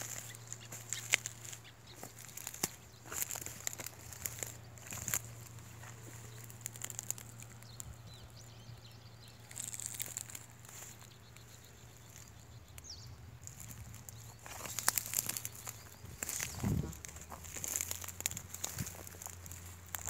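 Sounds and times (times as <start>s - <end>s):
footsteps through dry weeds: 0.0s - 20.0s.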